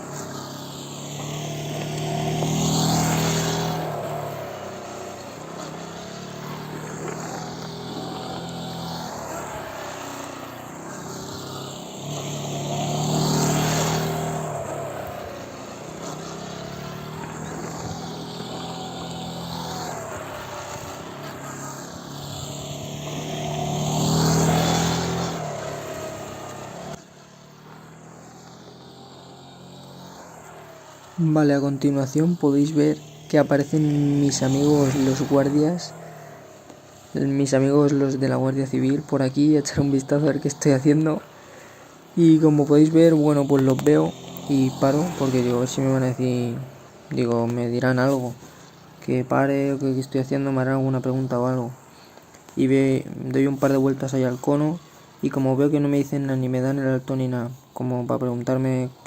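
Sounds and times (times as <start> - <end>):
motorcycle engine passing: 0.0 - 59.0.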